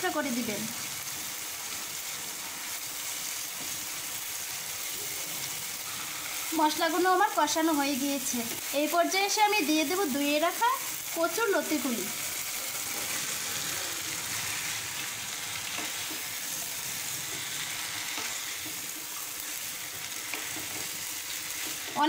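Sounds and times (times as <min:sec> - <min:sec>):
oil sizzling in a frying pan: 0:00.0 - 0:22.0.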